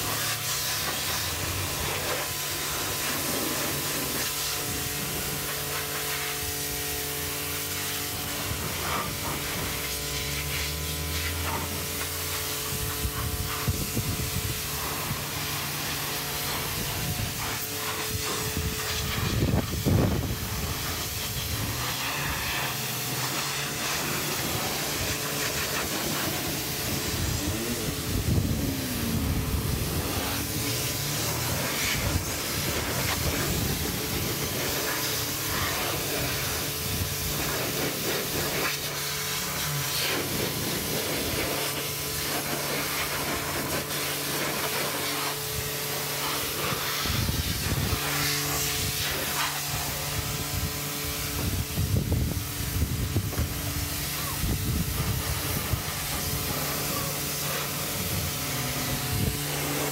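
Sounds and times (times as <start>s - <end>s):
pressure washer spray hissing: 0.0s - 59.9s.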